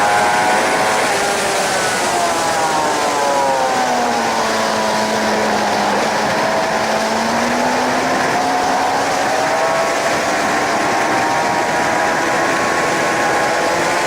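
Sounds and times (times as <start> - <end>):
motorcycle engine revving: 0.0 - 14.0
wind rush: 0.0 - 14.0.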